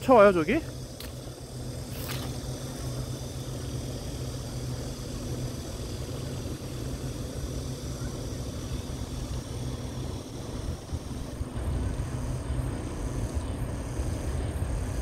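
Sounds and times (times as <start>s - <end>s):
motorboat engines droning: 0.0s - 15.0s.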